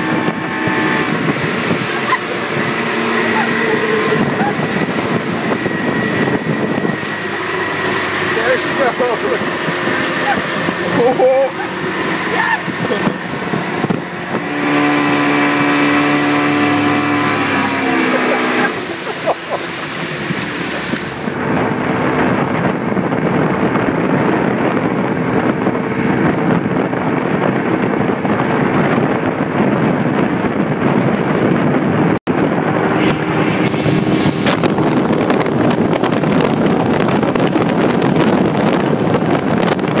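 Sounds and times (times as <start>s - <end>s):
outboard motor running: 0.0s - 40.0s
wake rushing: 0.0s - 40.0s
wind buffeting microphone: 0.0s - 40.0s.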